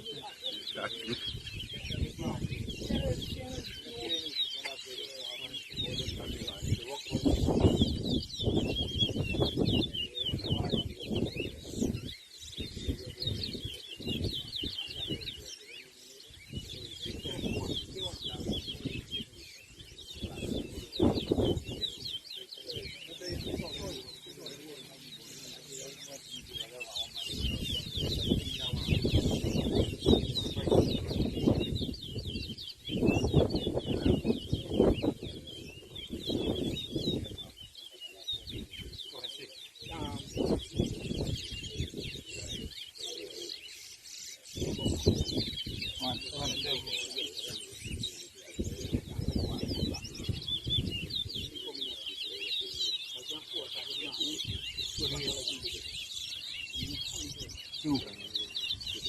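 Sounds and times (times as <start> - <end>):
bird twittering chirps: 0.0 - 59.0.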